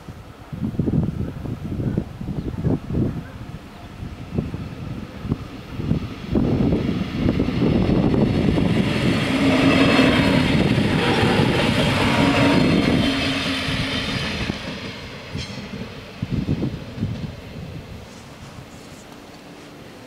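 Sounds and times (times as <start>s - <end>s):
railcar engine hum: 0.0s - 20.0s.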